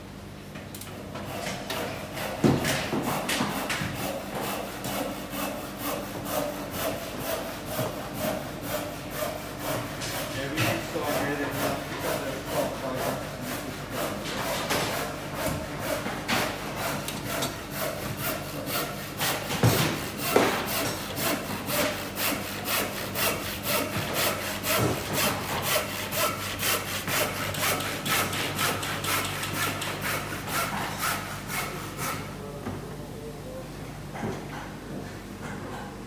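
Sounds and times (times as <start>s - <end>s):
handsaw cutting wood: 1.3s - 32.3s.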